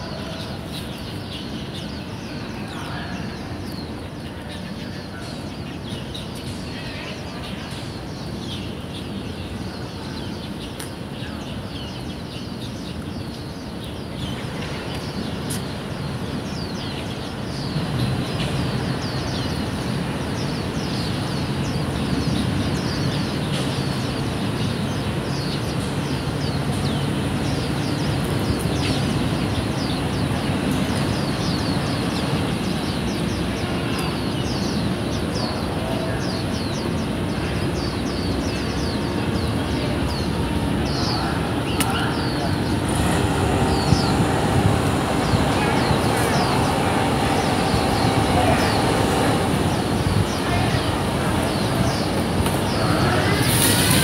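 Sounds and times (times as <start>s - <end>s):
birds chirping: 0.0s - 54.0s
low traffic hum: 0.0s - 54.0s.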